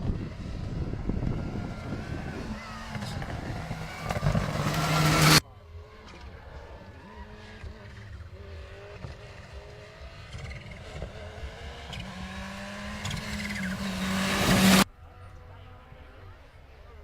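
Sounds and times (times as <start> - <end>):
distant rally car engine revving: 0.0 - 14.9.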